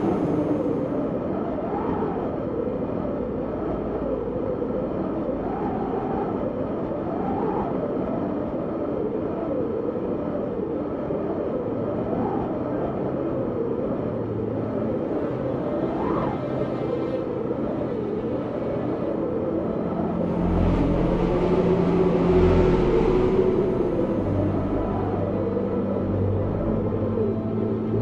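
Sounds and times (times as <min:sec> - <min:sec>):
blizzard wind howling: 0:00.0 - 0:28.0.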